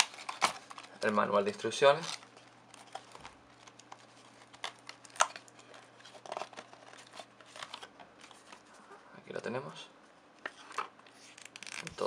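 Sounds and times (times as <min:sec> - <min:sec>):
packaging rustling and crinkling: 0:00.0 - 0:08.9, 0:10.5 - 0:12.0.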